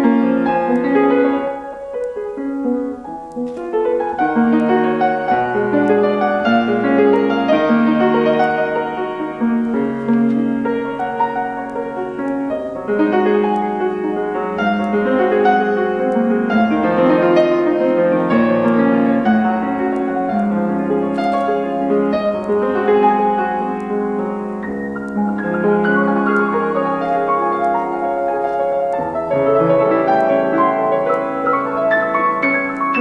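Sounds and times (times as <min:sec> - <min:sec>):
grand piano hymn chords: 0:00.0 - 0:33.0.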